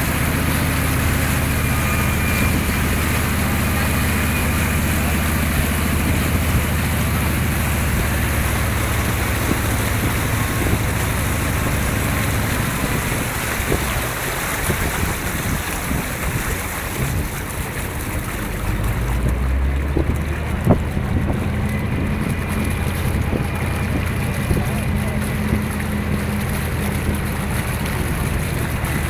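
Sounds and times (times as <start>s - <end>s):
boat engine humming: 0.0s - 29.0s
water churning along hull: 0.0s - 29.0s
wind buffeting microphone: 0.0s - 29.0s.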